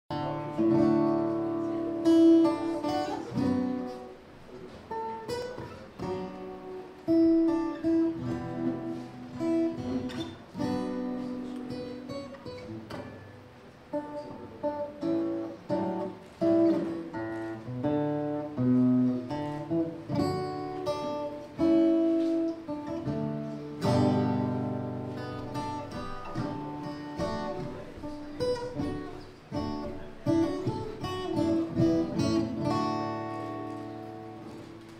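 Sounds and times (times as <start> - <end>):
acoustic guitar playing: 0.1 - 34.9.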